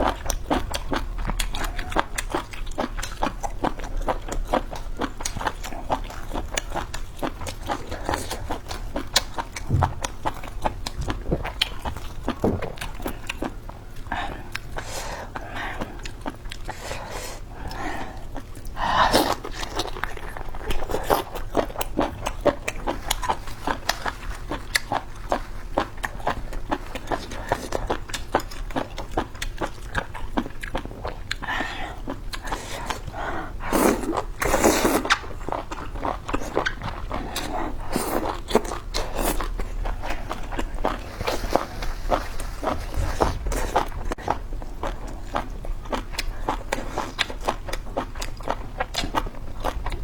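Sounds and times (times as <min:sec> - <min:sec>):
person chewing and biting food: 0:00.0 - 0:50.0.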